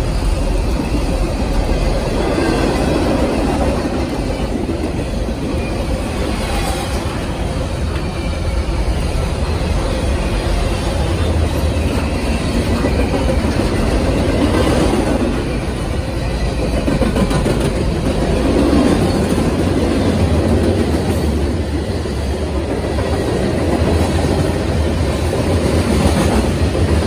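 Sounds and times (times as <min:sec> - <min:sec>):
freight train wheels rumbling on rails: 0:00.0 - 0:27.0.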